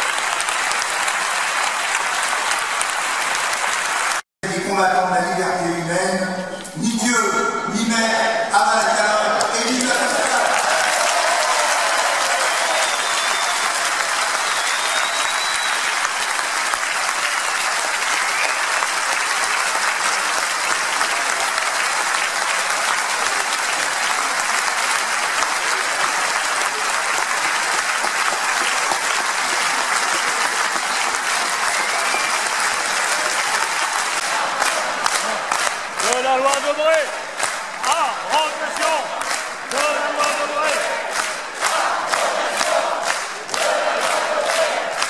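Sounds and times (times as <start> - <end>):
crowd applauding in large hall: 0.0 - 4.3, 9.1 - 45.0.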